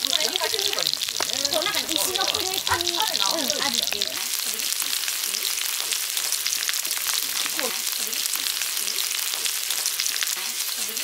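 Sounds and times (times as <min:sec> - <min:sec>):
fat spitting and crackling: 0:00.0 - 0:11.0
steaks sizzling on griddle: 0:00.0 - 0:11.0.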